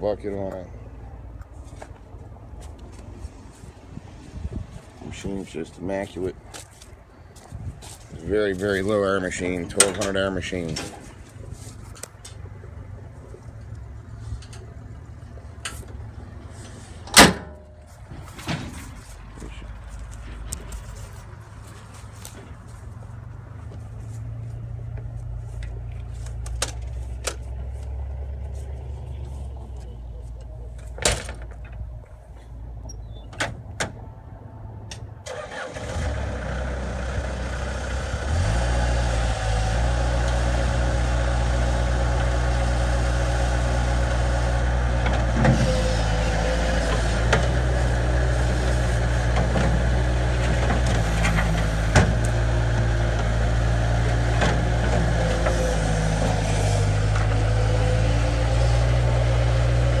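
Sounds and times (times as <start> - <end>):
diesel engine starting and running: 0.0 - 60.0.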